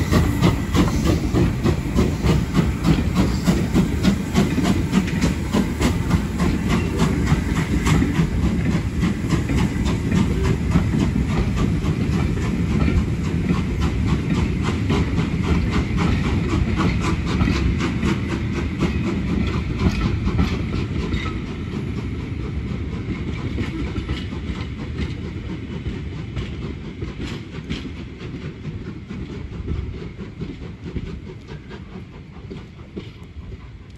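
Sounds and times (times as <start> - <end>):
low train rumble: 0.0 - 33.9
train wheel clacks: 0.0 - 33.9.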